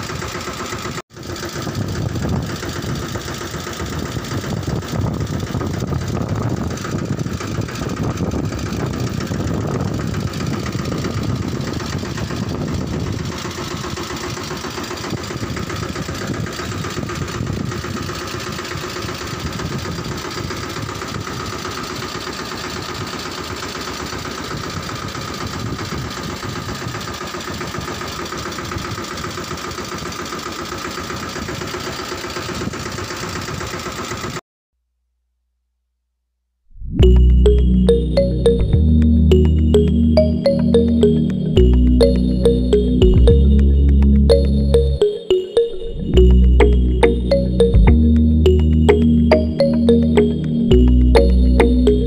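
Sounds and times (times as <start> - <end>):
tractor engine running: 0.0 - 34.4, 37.0 - 45.1, 45.8 - 52.0.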